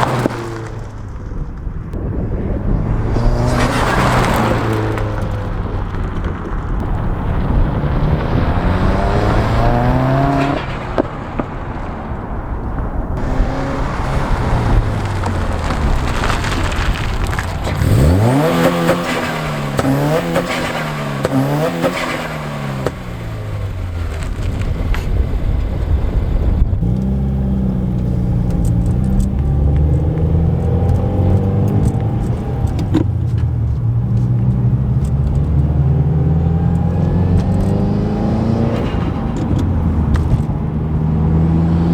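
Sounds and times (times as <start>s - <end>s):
car engine accelerating and revving: 0.0s - 41.9s.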